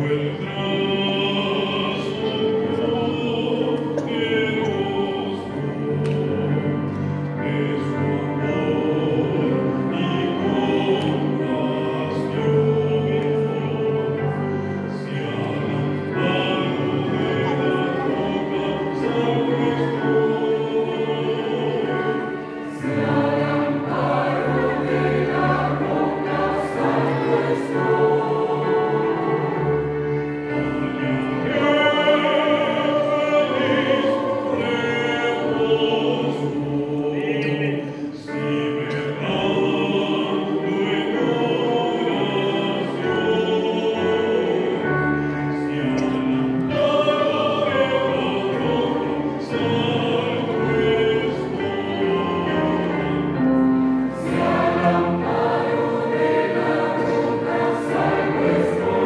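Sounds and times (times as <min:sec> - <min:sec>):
choir singing a hymn: 0:00.0 - 0:59.0
piano accompaniment: 0:00.0 - 0:59.0.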